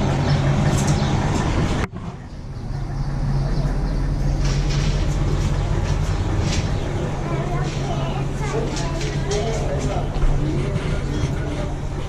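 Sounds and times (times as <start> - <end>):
bus engine idling: 0.0 - 12.0
faint voices: 1.9 - 12.0.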